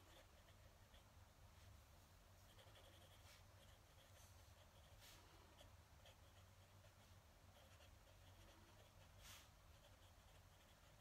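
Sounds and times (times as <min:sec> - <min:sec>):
pen nib scratching on paper: 0:00.0 - 0:01.2, 0:02.4 - 0:11.0.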